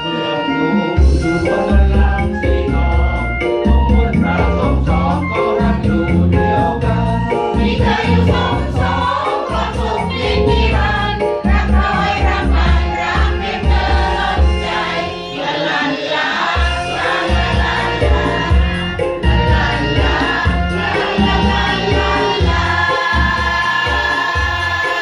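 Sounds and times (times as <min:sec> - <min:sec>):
instrumental backing with bass beat: 0:00.0 - 0:15.4, 0:16.4 - 0:25.0
choir singing in unison: 0:04.1 - 0:25.0.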